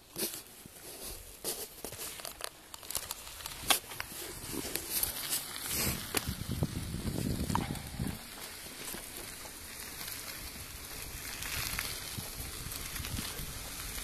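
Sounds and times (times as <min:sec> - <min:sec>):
bike tyres on sandy dirt: 0:00.0 - 0:14.0.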